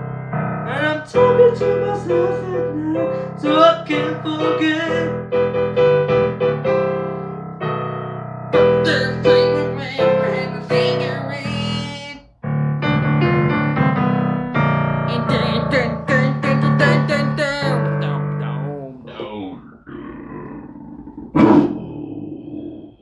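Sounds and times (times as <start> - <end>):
electric piano chords: 0.0 - 23.0.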